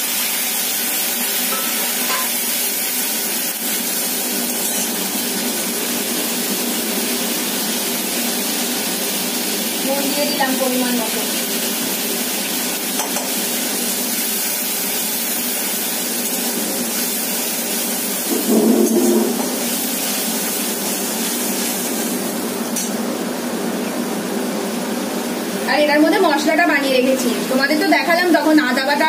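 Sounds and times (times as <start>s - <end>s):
tomatoes sizzling in hot oil: 0.0s - 29.0s.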